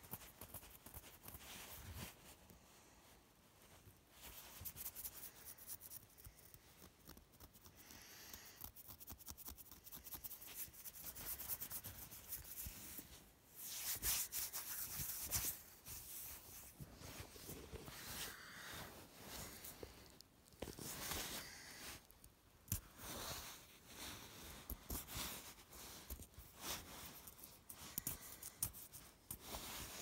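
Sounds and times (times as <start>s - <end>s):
close rubbing and scratching: 0.0s - 2.5s, 3.5s - 30.0s.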